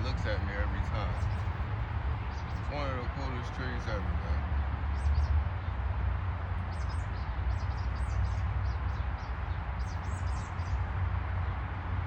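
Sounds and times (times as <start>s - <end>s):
small birds chirping: 0.0s - 4.3s, 4.9s - 5.8s, 6.6s - 11.6s
low rumble and hiss: 0.0s - 12.0s.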